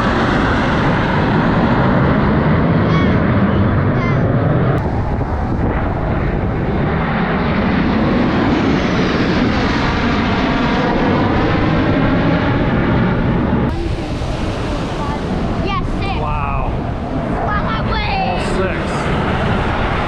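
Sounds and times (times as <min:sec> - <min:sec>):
low-flying airplane passing: 0:00.0 - 0:20.0.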